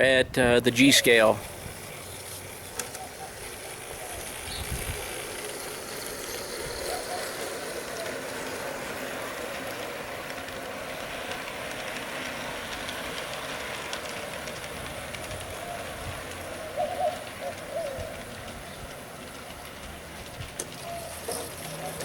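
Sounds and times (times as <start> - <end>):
wheels clicking over rails: 0.0 - 22.0
model train motor hum: 0.6 - 22.0.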